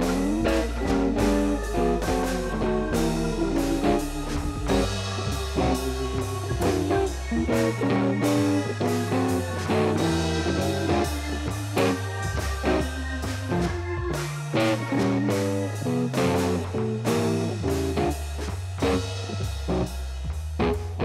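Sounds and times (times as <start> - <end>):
plucked guitar notes: 0.0 - 19.9
bass line: 0.0 - 21.0
drums with steady beat: 0.0 - 21.0.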